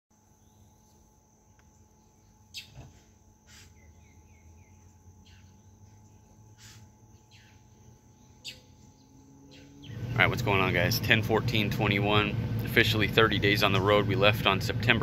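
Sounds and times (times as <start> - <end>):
insects trilling drone: 0.2 - 15.0.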